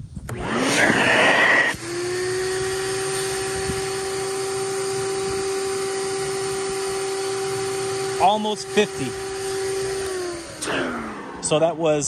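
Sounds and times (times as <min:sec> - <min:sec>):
shop vac motor whining: 0:00.0 - 0:12.0.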